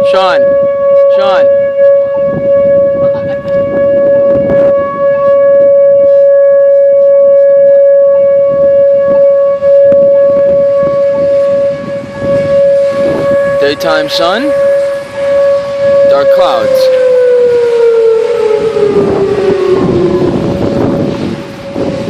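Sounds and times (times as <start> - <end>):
siren steady tone: 0.0 - 22.0
low rumble: 0.5 - 22.0.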